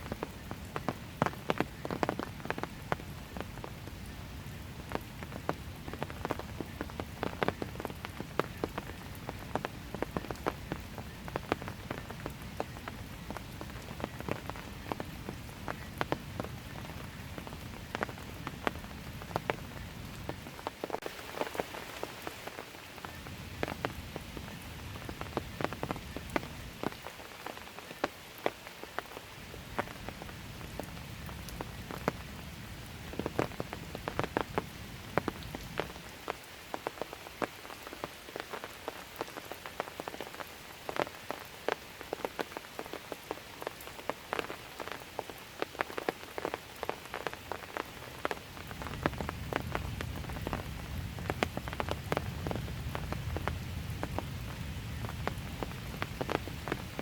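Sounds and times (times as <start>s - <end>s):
gentle rain hissing: 0.0s - 57.0s
raindrops ticking close by: 0.0s - 57.0s.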